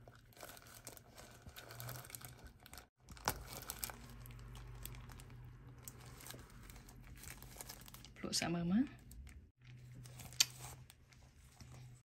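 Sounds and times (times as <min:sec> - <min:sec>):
plastic glove crinkling: 0:00.0 - 0:12.0.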